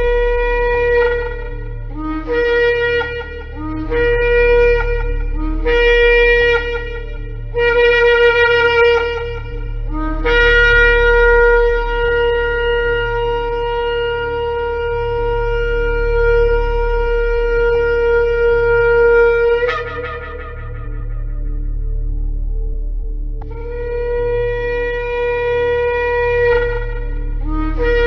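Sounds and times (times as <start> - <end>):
shofar blast: 0.0 - 22.4, 23.4 - 28.0.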